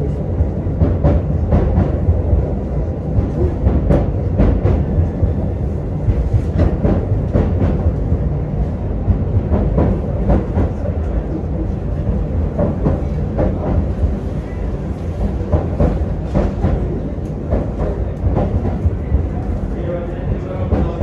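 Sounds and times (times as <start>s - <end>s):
train running gear rumble: 0.0s - 21.0s.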